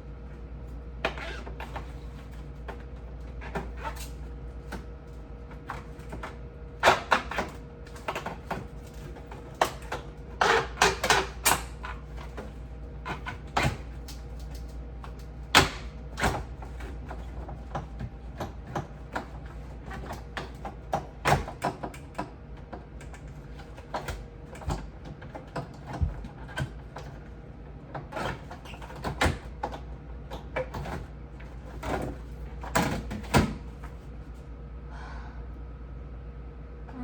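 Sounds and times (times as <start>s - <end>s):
steady low hum: 0.0s - 37.0s
refrigerator shelves clacking: 1.0s - 27.3s, 27.9s - 34.2s.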